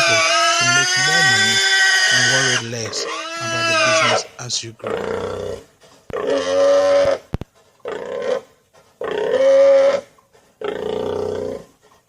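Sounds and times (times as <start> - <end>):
pigs squealing: 0.0 - 11.7.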